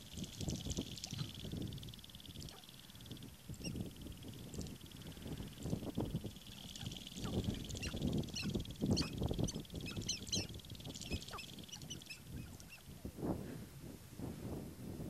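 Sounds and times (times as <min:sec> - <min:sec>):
steady high buzz: 0:00.0 - 0:14.2
grouse clucking calls: 0:00.2 - 0:12.8.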